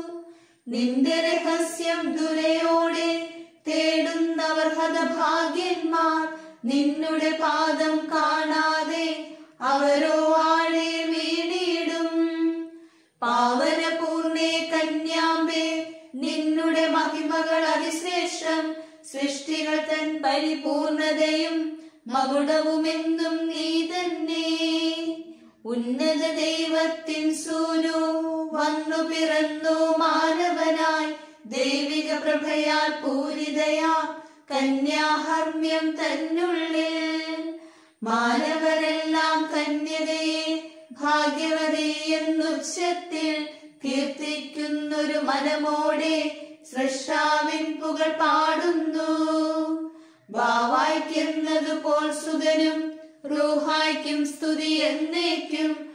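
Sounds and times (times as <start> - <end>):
unaccompanied hymn singing: 0.0 - 55.9.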